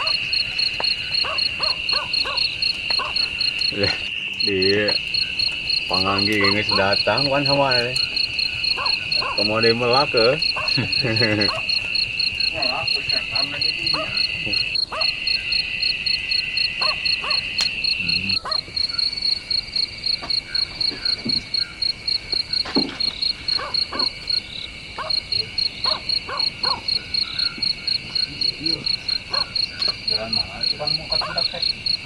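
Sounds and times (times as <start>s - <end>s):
cricket chirping: 0.0s - 32.0s
high-pitched insect trill: 0.0s - 32.0s.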